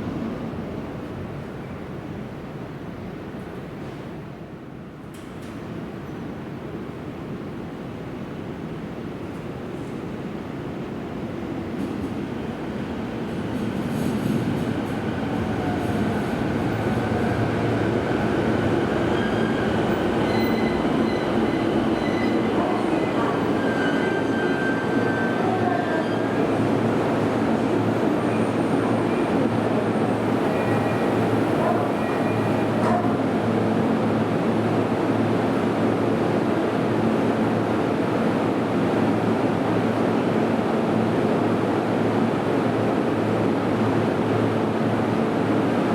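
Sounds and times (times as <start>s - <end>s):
train rumble: 8.7s - 45.9s.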